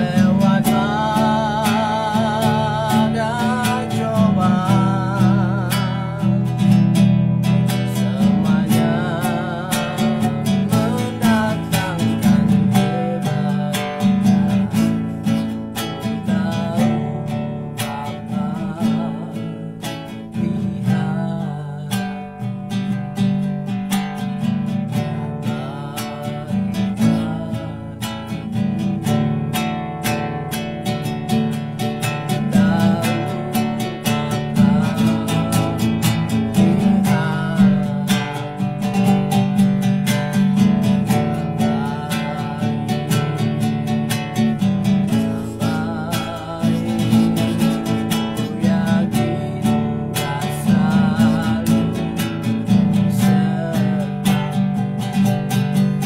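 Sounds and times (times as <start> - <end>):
acoustic guitar strumming: 0.0 - 56.0
man singing: 0.0 - 56.0.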